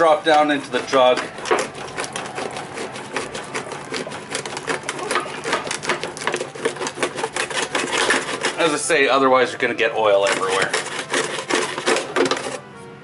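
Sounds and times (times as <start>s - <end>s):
plastic jug crackling: 0.0s - 12.6s.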